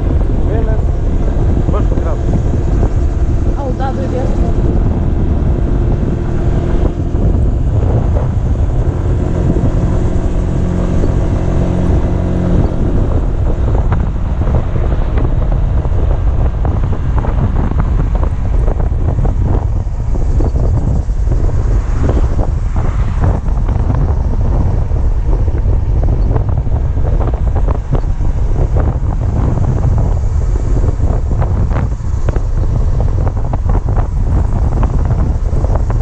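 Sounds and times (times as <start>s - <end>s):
scooter engine cruising: 0.0s - 36.0s
wind buffeting microphone: 0.0s - 36.0s.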